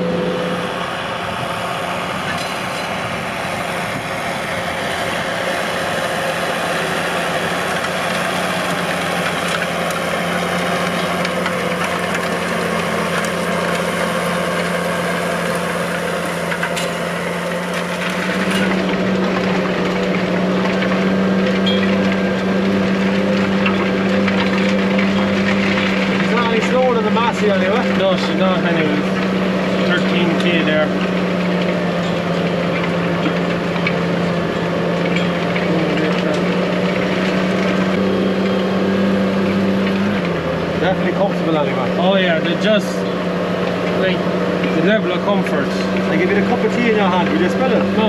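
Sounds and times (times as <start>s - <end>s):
tractor engine under load: 0.0s - 48.0s.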